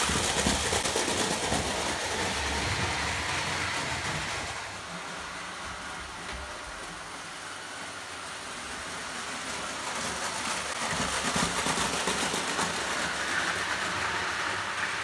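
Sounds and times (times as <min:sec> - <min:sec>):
toy train running on track: 0:00.0 - 0:15.0.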